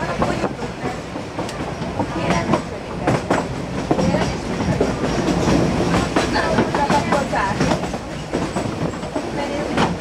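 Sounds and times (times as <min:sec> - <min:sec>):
steady train rumble: 0:00.0 - 0:10.0
train wheels clattering on rails: 0:00.0 - 0:10.0.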